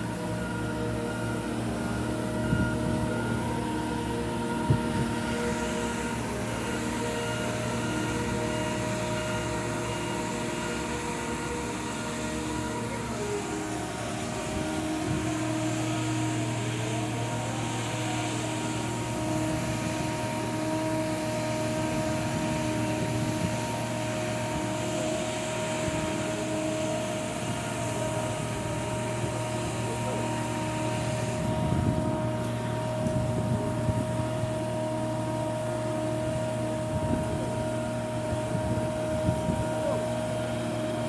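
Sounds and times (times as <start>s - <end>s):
engine low hum: 0.0s - 41.0s
high-pitched hydraulic whine: 0.0s - 41.0s.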